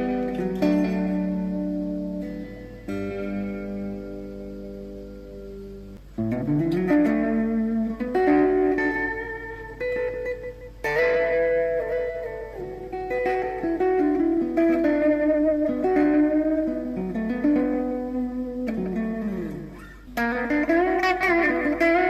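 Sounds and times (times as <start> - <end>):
electric guitar with tape echo: 0.0 - 22.0.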